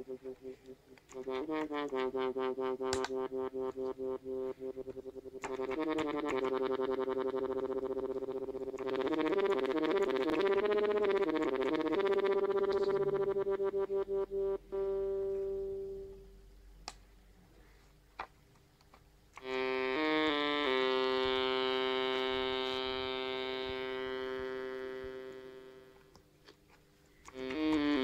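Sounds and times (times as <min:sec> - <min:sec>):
buzzy synthesizer notes: 0:00.0 - 0:16.6, 0:19.4 - 0:26.1, 0:27.3 - 0:28.0.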